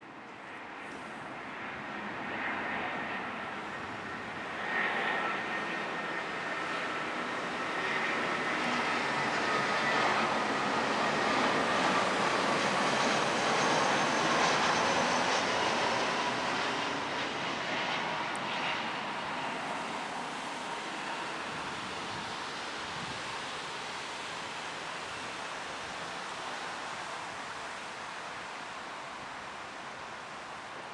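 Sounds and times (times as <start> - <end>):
jet engines on landing run: 0.1 - 30.9.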